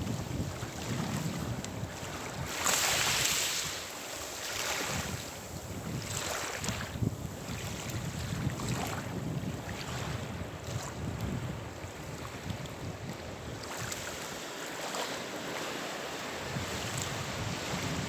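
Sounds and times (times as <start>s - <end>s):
sea waves breaking: 0.0s - 10.8s, 13.4s - 18.0s
wind rumbling on microphone: 0.0s - 14.6s, 15.6s - 18.0s.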